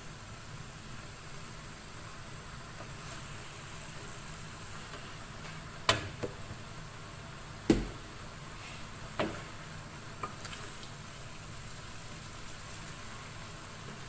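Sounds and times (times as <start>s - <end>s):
low hiss of frying: 0.0s - 14.0s.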